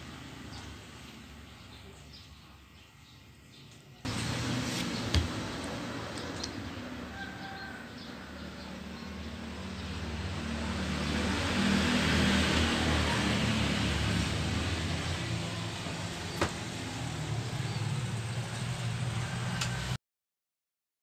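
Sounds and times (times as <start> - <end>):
vehicle engine passing by: 0.0 - 2.2, 4.0 - 20.0.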